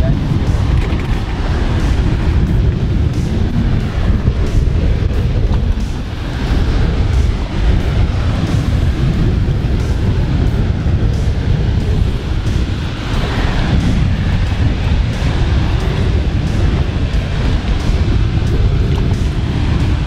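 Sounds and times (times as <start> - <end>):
choppy sea: 0.0 - 20.0
wind buffeting microphone: 0.0 - 20.0.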